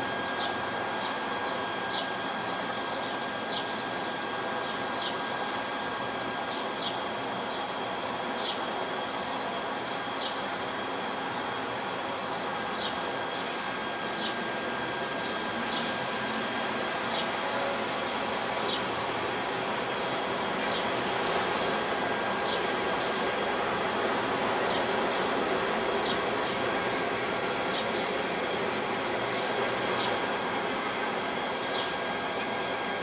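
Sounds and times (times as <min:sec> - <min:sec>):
city background noise: 0:00.0 - 0:33.0
faint steady whine: 0:00.0 - 0:33.0.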